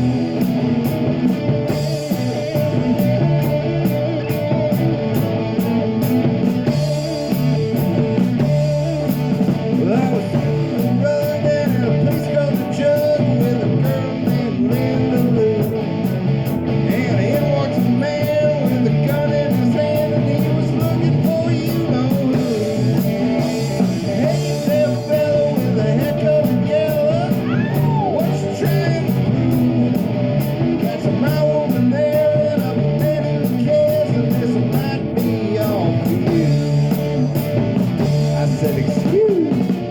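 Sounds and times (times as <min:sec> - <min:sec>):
bass guitar: 0:00.0 - 0:39.9
drums: 0:00.0 - 0:39.9
electric guitar: 0:00.0 - 0:39.9
person singing: 0:01.4 - 0:39.9.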